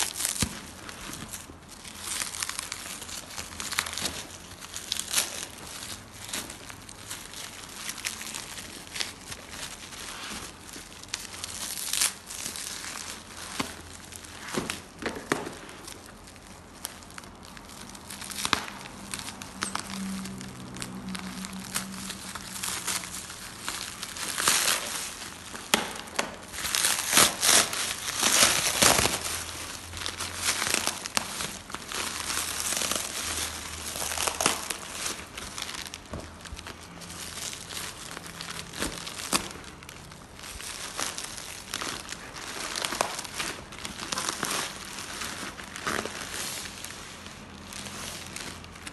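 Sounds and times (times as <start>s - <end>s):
plastic wrapping crinkling and tearing: 0.0s - 48.9s.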